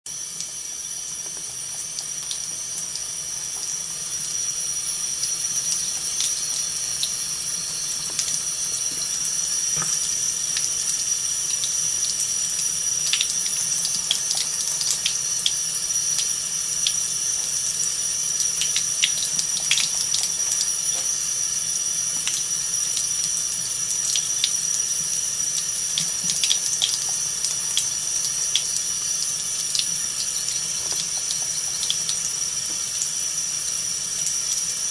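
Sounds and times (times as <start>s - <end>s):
faucet water running into sink: 0.1s - 34.9s.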